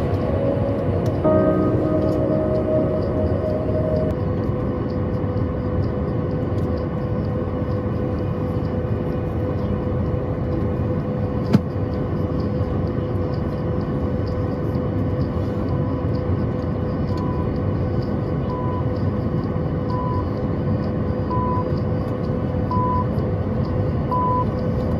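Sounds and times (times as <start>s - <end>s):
aircraft cabin engine rumble: 0.0s - 5.6s, 6.4s - 23.9s.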